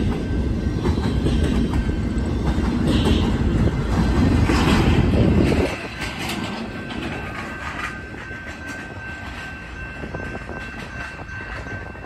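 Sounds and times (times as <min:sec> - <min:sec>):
steel wheels clicking over rail joints: 0:00.0 - 0:12.0.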